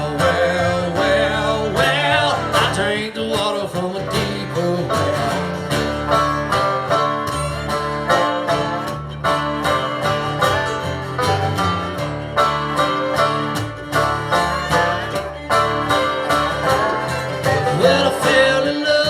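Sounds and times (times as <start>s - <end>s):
bluegrass banjo and guitar: 0.0s - 19.0s.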